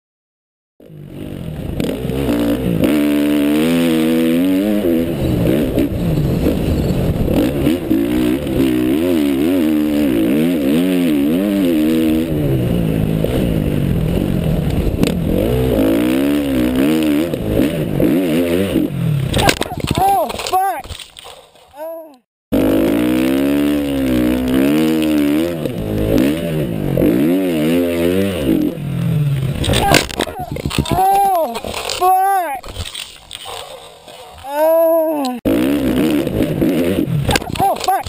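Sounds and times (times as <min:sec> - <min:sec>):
dirt bike engine revving: 0:00.8 - 0:20.8, 0:22.5 - 0:38.0.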